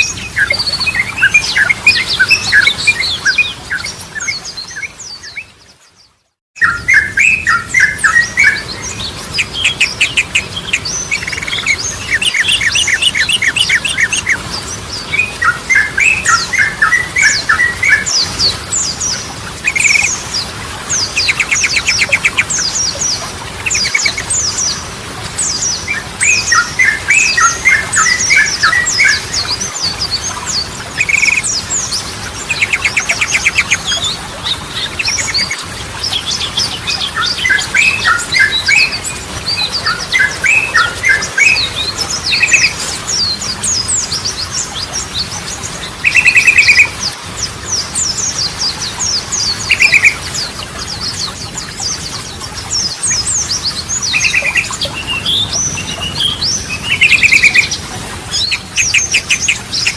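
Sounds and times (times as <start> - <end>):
bird song chattering phrases: 6.6 - 59.9.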